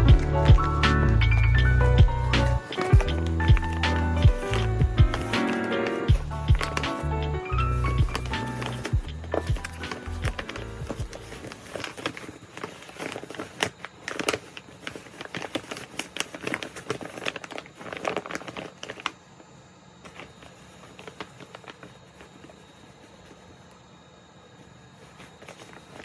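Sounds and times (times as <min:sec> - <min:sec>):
packaging crinkling: 0:00.0 - 0:23.4, 0:25.0 - 0:26.0.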